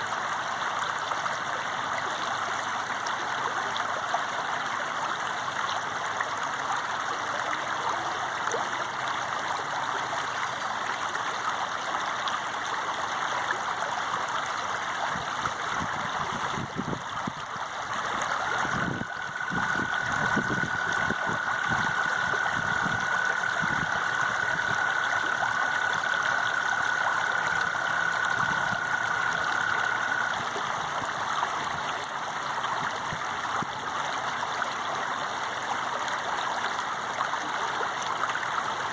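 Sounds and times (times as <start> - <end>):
water rushing like a stream: 0.0 - 38.9.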